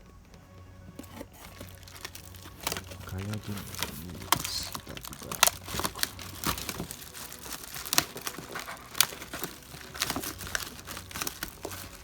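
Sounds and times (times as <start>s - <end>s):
packaging crinkling and tearing: 0.3s - 12.0s.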